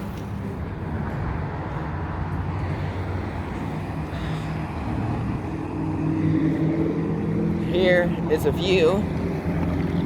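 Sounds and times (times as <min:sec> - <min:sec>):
passing vehicle engine drone: 0:00.0 - 0:10.0.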